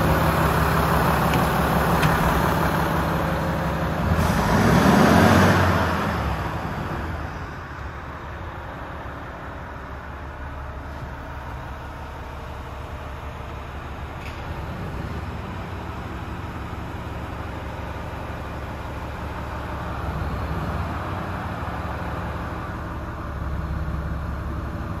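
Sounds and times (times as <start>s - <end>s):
truck diesel engine idling: 0.0s - 25.0s.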